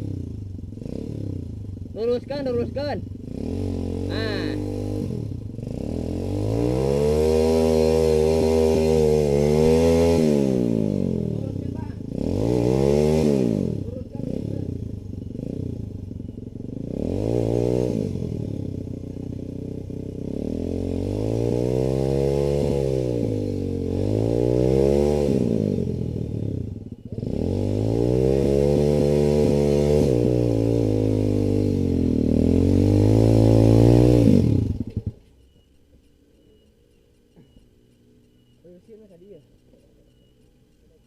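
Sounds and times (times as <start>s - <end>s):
dirt bike engine revving: 0.0s - 35.7s.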